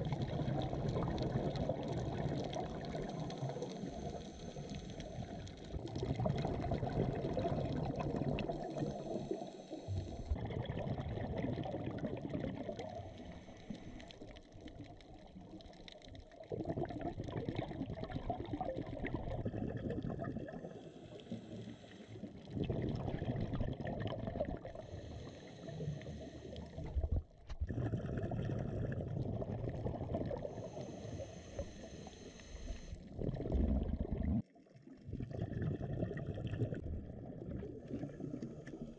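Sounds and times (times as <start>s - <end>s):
underwater regulator bubbles gurgling: 0.0s - 38.9s.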